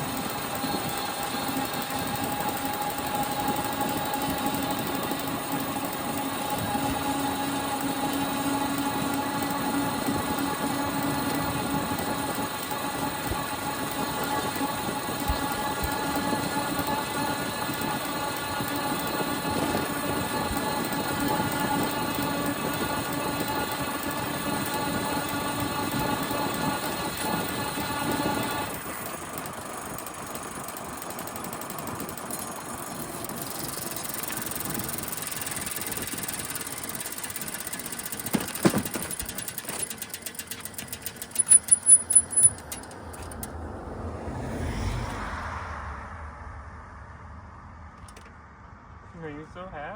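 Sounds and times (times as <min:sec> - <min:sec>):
bicycle whining squeal: 0:00.0 - 0:43.4
bicycle rolling: 0:00.0 - 0:43.7, 0:48.0 - 0:48.3.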